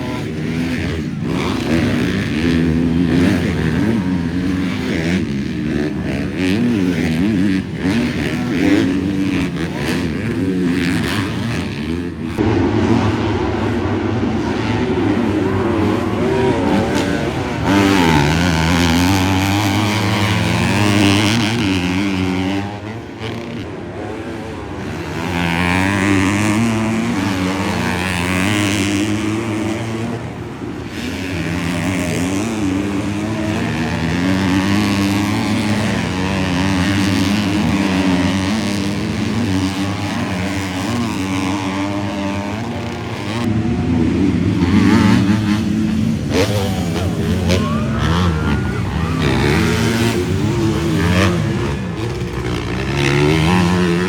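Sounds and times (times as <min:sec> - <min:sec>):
motocross bikes revving: 0:00.0 - 0:54.0.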